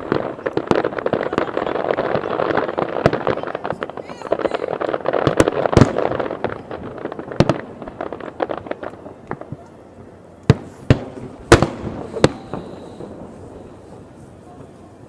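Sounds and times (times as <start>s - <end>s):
loud firework bangs: 0.0s - 9.6s, 10.5s - 14.8s
fireworks crackling pops: 0.0s - 15.0s.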